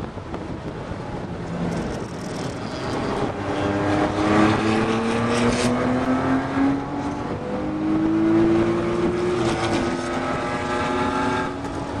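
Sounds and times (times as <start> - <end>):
wind and road noise: 0.0 - 12.0
car engine revving: 1.8 - 12.0.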